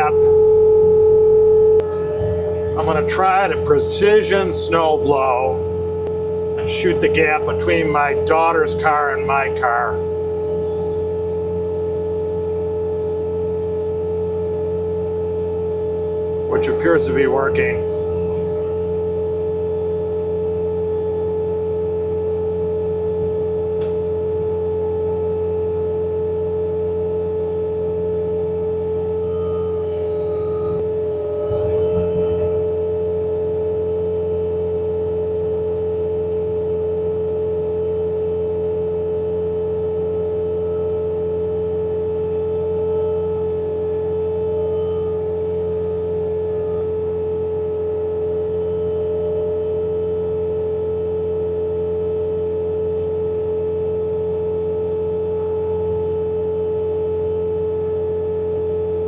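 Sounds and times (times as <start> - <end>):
snowblower high whine: 0.0 - 59.0.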